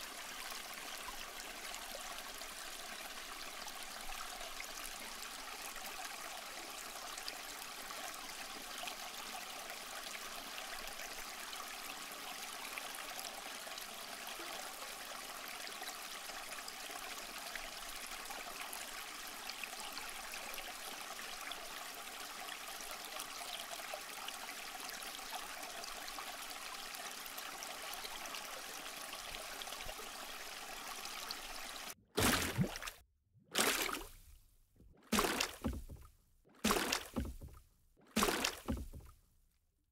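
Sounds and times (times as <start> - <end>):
water trickling: 0.0 - 33.0, 35.1 - 37.6, 38.2 - 39.2.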